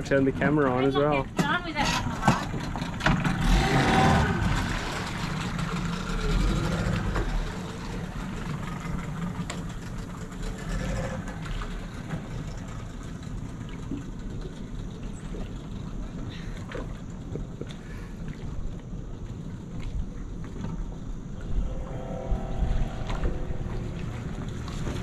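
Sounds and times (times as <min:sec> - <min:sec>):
outboard motor running: 0:00.0 - 0:20.9.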